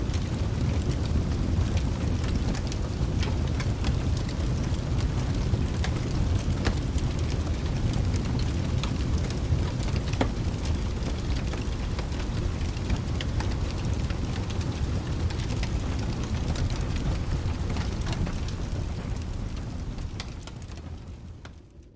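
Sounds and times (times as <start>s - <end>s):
fireplace crackling and popping: 0.0s - 21.9s
steady rain: 0.0s - 21.9s.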